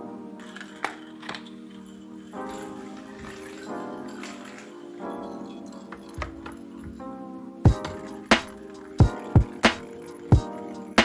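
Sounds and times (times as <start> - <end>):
music with sustained tones: 0.0 - 11.0.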